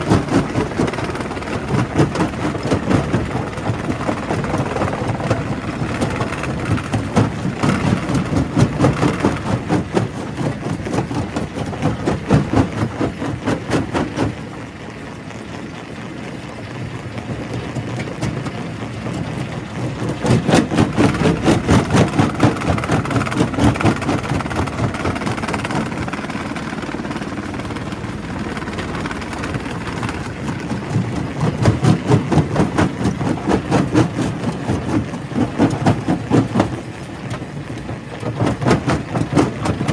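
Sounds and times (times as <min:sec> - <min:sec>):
heavy machinery running: 0:00.0 - 0:15.4, 0:17.1 - 0:39.9.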